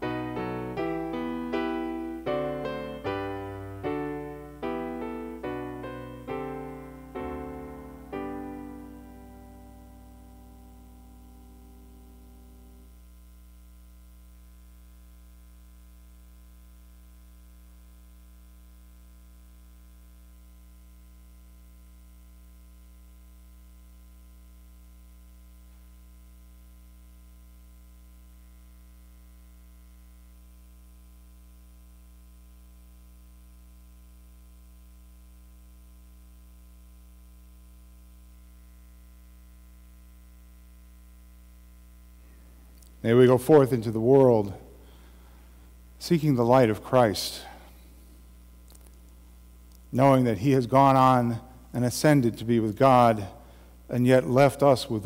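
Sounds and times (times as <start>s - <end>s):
electrical mains hum: 0.0s - 55.0s
faint sound system hiss: 0.0s - 55.0s.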